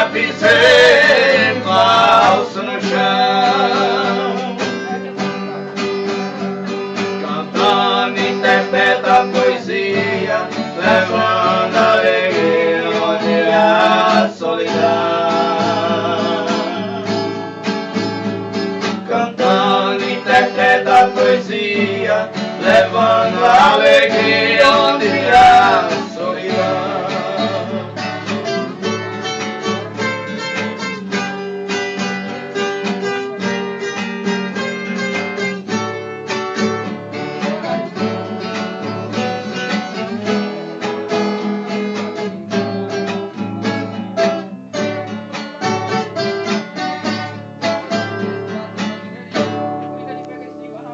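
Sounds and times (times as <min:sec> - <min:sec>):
plucked acoustic strings: 0:00.0 - 0:50.9.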